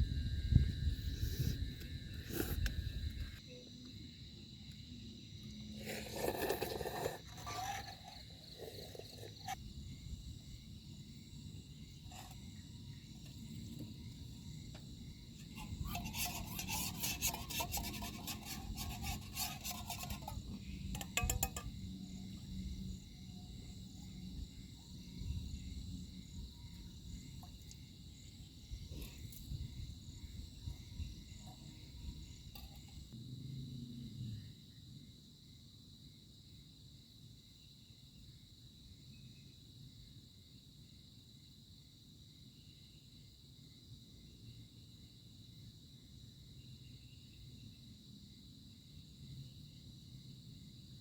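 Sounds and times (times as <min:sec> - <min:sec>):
night insects chirping: 0:00.0 - 0:51.0.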